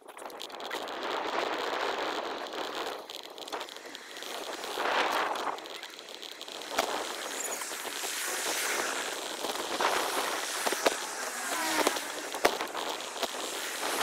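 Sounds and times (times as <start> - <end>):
steady hissing rush: 1.3 - 14.0.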